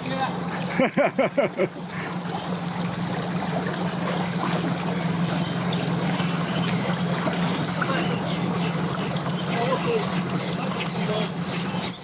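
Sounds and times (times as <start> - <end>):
boat motor humming: 0.0 - 12.0
water rushing: 0.0 - 12.0.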